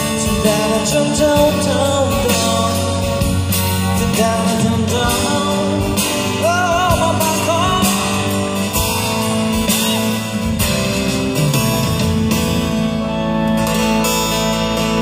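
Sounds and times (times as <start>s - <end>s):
drums: 0.0s - 15.0s
electric and acoustic guitars: 0.0s - 15.0s.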